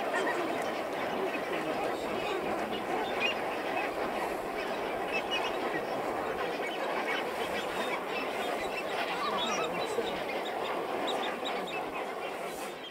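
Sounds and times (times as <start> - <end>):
flock of flamingos calling: 0.0 - 12.9.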